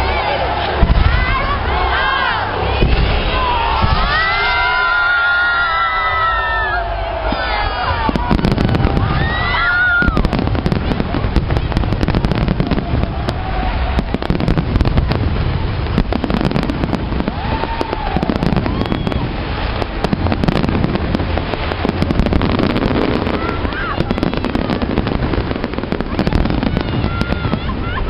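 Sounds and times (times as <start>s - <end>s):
fireworks bangs and crackling: 0.0s - 28.0s
low rumble: 0.0s - 28.0s.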